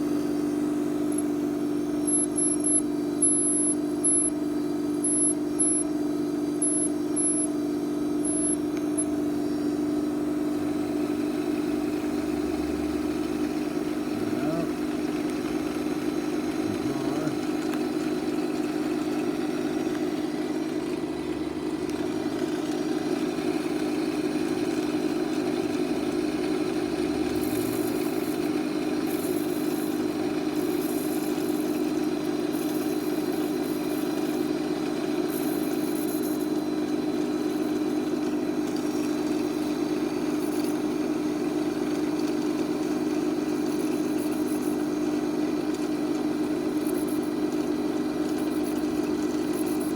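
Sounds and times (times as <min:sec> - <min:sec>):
lathe motor humming: 0:00.0 - 0:49.9.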